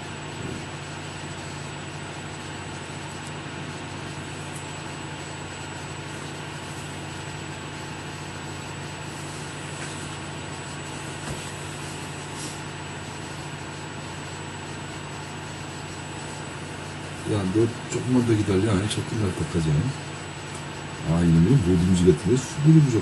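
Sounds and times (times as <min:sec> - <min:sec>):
equipment hum and hiss: 0:00.0 - 0:23.0
faint high whine: 0:00.0 - 0:23.0.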